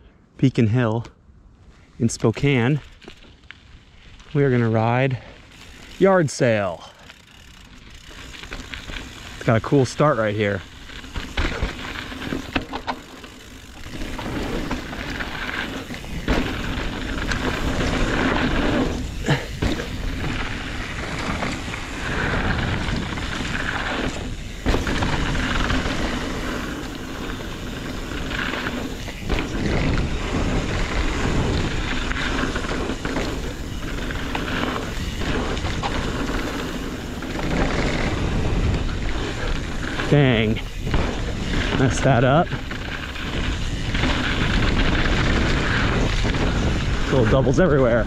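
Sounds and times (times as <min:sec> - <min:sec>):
bike tyres on dirt trail: 0:00.0 - 0:48.0
bike rattling: 0:02.0 - 0:48.0.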